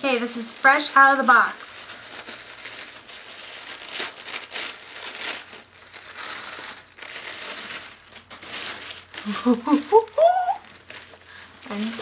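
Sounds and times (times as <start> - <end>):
tissue paper crinkling: 0.0 - 12.0.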